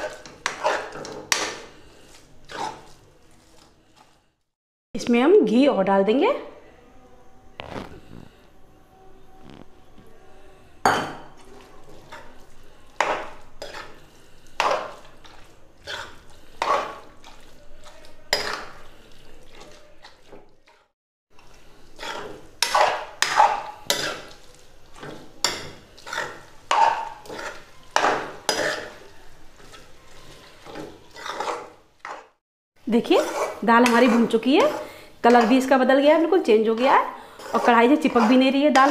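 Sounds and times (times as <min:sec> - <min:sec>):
spoon scraping a metal pan: 0:00.0 - 0:04.2, 0:10.8 - 0:32.4, 0:33.0 - 0:38.9.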